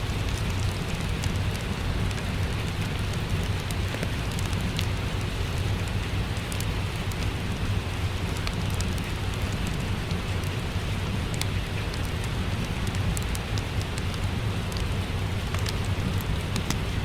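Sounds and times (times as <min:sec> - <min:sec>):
low constant rumble: 0:00.0 - 0:17.0
steady rain: 0:00.0 - 0:17.0
wood fire crackling: 0:00.0 - 0:17.0.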